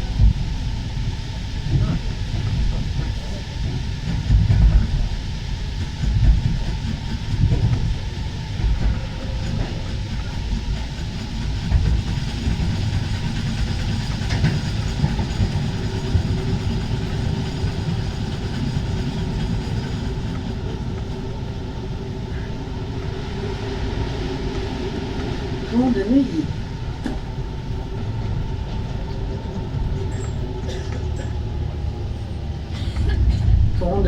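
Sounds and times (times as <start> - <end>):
train running low rumble: 0.0 - 34.0.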